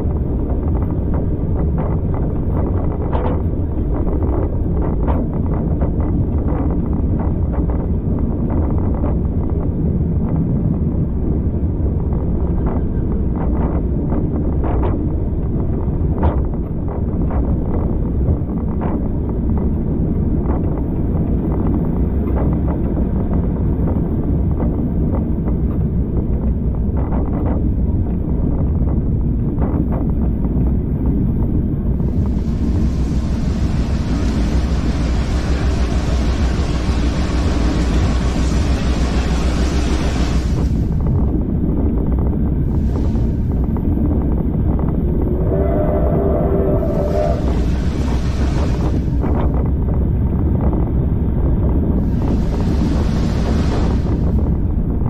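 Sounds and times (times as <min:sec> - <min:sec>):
train carriage rumbling: 0:00.0 - 0:55.0.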